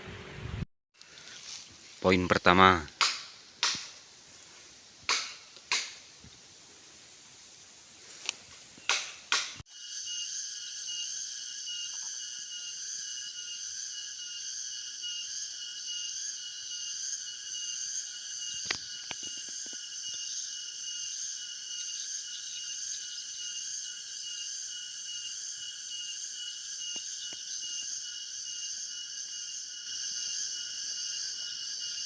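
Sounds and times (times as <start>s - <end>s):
insect chorus of crickets: 1.0s - 32.0s.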